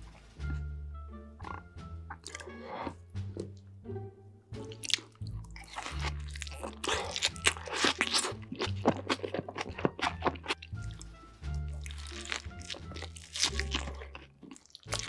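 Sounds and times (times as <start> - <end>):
background music with low bass: 0.0 - 15.0
crunching and chewing food: 1.4 - 3.6, 4.6 - 15.0.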